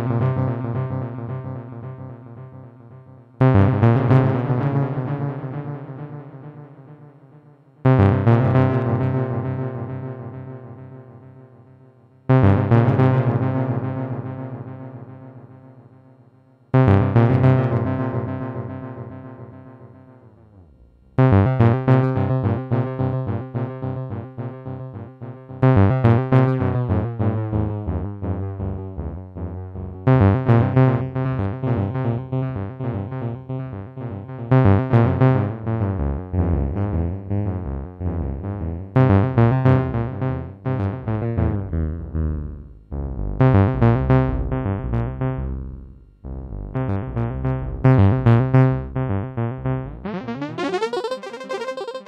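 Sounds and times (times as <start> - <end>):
synthesizer notes with tape echo: 0.0 - 52.0.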